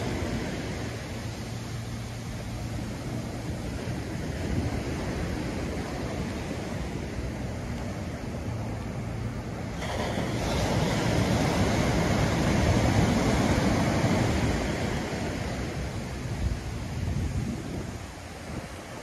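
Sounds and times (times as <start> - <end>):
waves breaking on a beach: 0.0 - 19.0.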